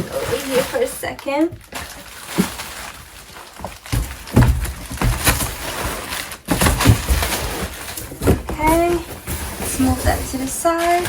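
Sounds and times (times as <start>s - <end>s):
boxes knocking and thumping: 0.0s - 11.0s
packaging rustling: 0.0s - 11.0s.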